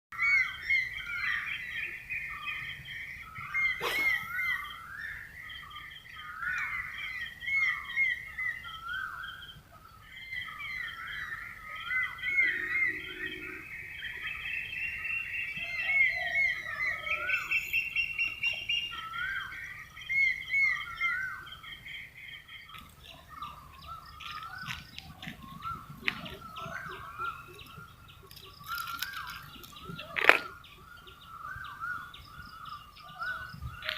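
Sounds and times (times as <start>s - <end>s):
birds chirping and whistling: 0.2s - 33.9s.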